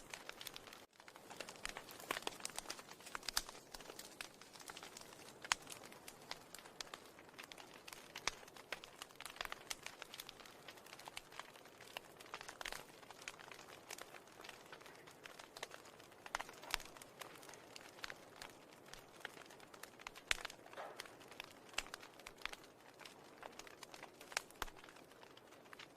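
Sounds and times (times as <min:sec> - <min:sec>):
faint crackling: 0:00.0 - 0:25.9.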